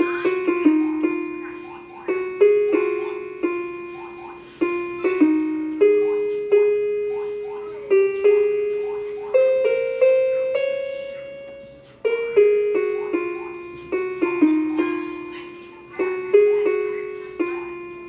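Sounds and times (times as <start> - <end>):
electronic keyboard harp melody: 0.0 - 18.0.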